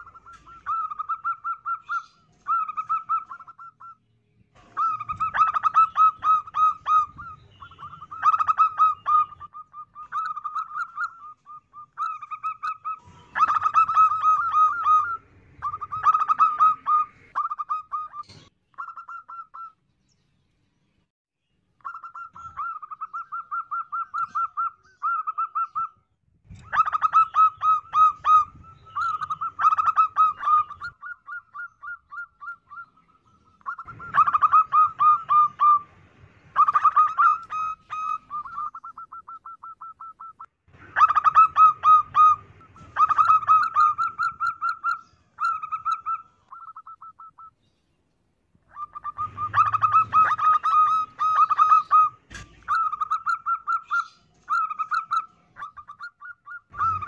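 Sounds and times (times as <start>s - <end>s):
dove cooing: 0.0s - 3.9s, 4.6s - 19.7s, 21.9s - 33.0s, 33.6s - 47.4s, 48.7s - 57.0s.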